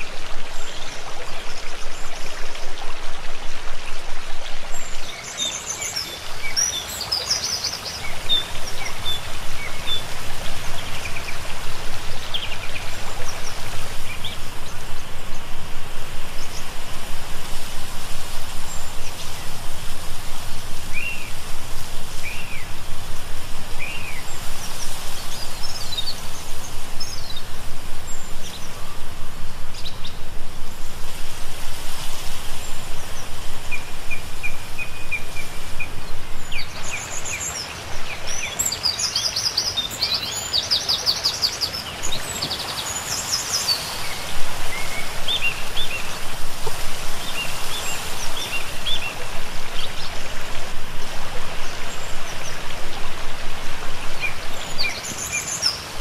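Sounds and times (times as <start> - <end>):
outdoor background noise: 0.0 - 56.0
songbirds chirping: 0.0 - 56.0.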